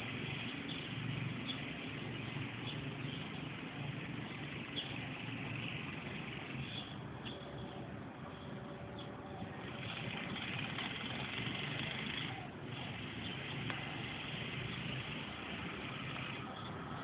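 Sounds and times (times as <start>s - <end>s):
outdoor low rumble and hiss: 0.0s - 17.0s.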